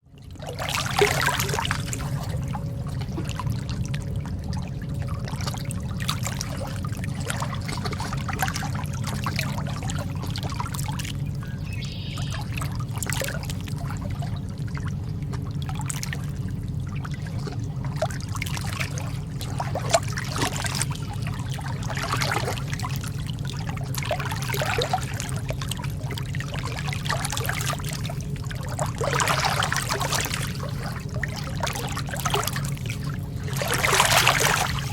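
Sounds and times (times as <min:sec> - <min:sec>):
steady low rumble: 0:00.0 - 0:34.9
sea water lapping: 0:00.1 - 0:34.9
small water splashes: 0:00.2 - 0:34.9.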